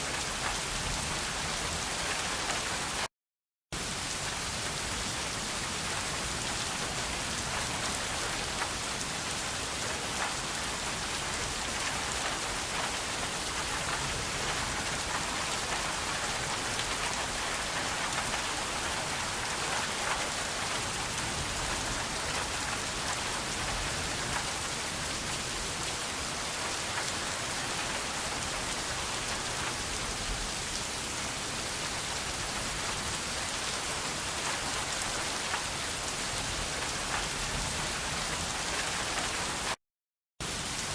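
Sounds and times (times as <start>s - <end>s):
steady rain falling: 0.0s - 3.1s, 3.8s - 39.8s, 40.4s - 40.9s.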